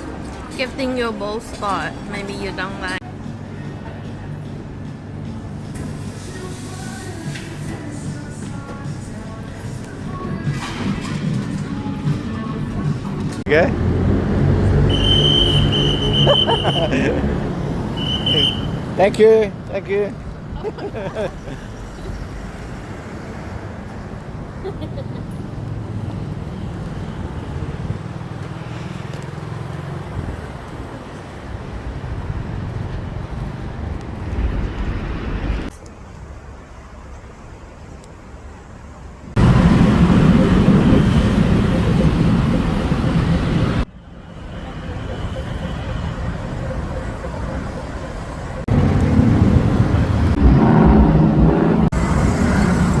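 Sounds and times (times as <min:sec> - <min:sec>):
rumble of street traffic: 0:00.0 - 0:53.0.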